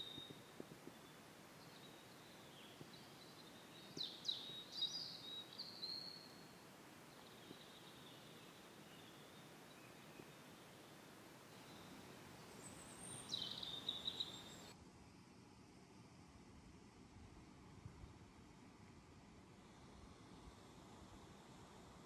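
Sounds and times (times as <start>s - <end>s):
steady hiss: 0.0s - 16.2s, 17.1s - 22.0s.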